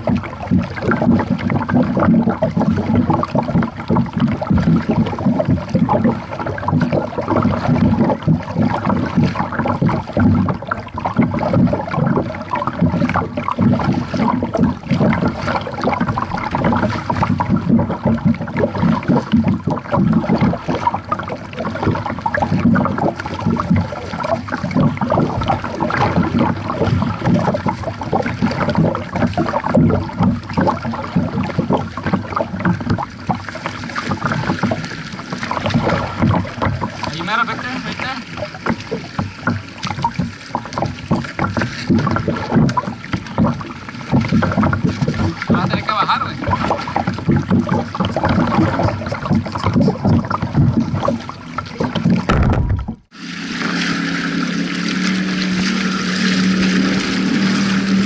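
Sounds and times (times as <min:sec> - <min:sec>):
water lapping and sloshing: 0:00.0 - 0:58.0.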